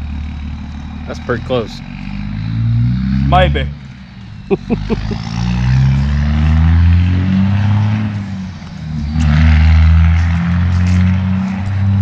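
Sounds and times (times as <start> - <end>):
motor engine droning: 0.0 - 12.0.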